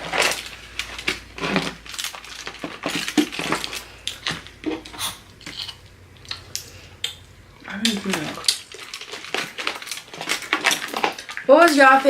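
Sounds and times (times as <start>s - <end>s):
crab shells cracking and crunching: 0.0s - 12.0s
wet chewing: 0.0s - 12.0s.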